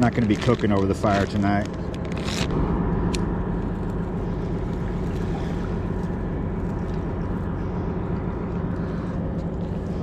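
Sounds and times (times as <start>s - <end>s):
distant ships mechanical hum: 0.0s - 10.0s.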